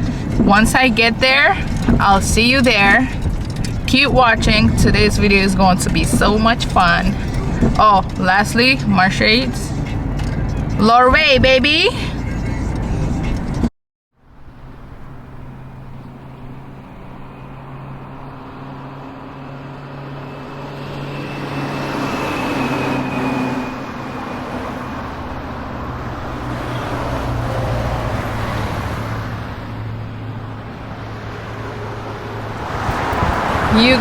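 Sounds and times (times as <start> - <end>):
car engine hum: 0.0 - 34.0
road noise rushing: 0.0 - 34.0.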